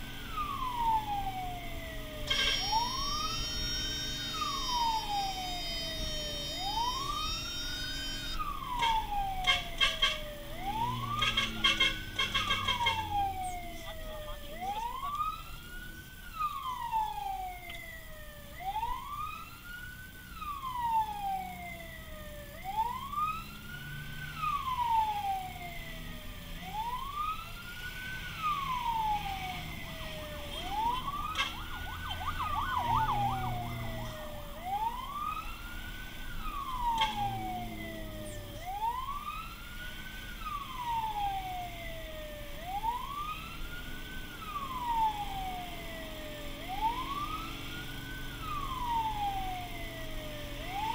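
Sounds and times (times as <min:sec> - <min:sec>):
truck engine: 0:00.0 - 0:16.9, 0:21.9 - 0:50.9
fire truck siren wailing: 0:00.0 - 0:50.9.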